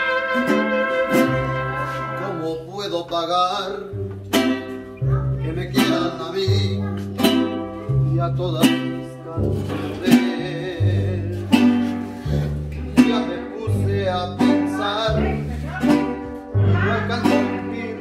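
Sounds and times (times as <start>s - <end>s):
bass guitar notes: 0.0s - 18.0s
guitars strumming chords: 0.0s - 18.0s.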